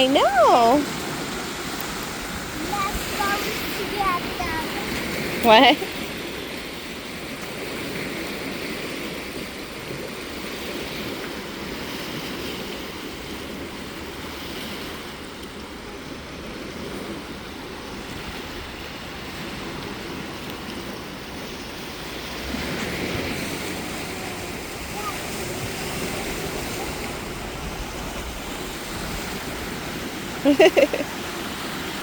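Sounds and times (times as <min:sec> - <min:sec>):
lake waves washing onto shore: 0:00.0 - 0:32.0.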